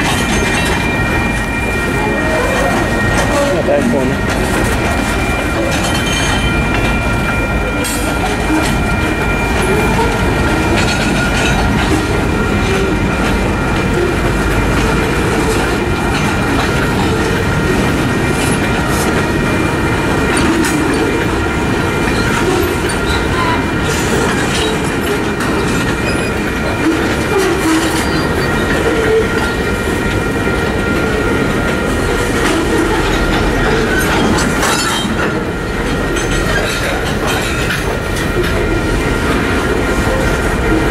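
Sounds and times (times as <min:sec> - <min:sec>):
crossing warning bell: 0:00.0 - 0:40.9
train wheels clattering: 0:00.0 - 0:40.9.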